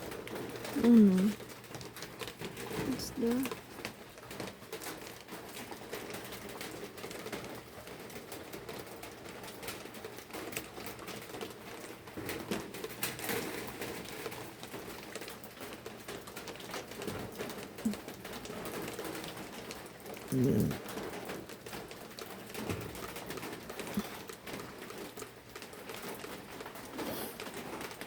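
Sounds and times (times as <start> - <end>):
light rain pattering: 0.0 - 28.0.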